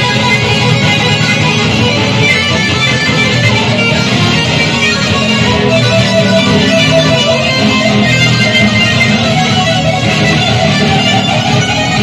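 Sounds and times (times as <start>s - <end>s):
live electric guitar music: 0.0s - 12.0s.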